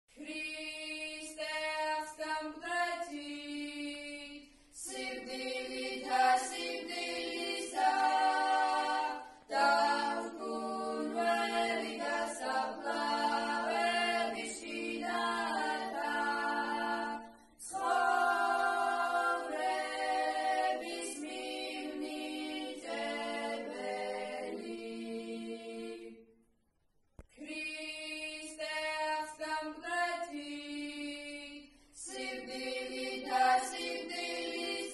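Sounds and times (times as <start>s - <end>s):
girls singing a hymn a cappella: 0.1s - 26.4s, 27.3s - 34.9s.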